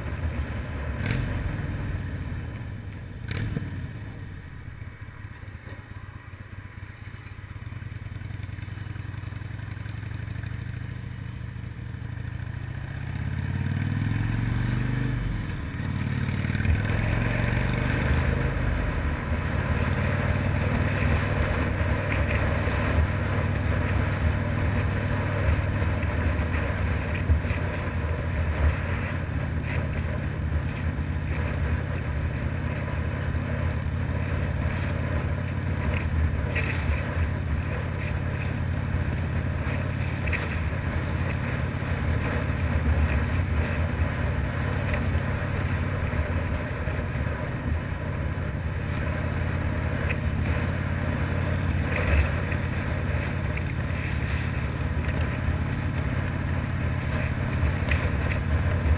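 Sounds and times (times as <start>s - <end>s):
motorcycle engine revving: 0.0s - 4.7s, 8.1s - 58.9s.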